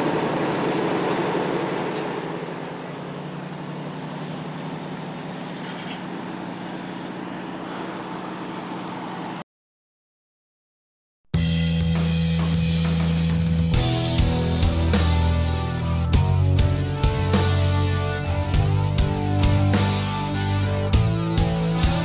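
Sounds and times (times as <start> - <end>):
truck engine running: 0.0 - 9.4, 12.8 - 22.0.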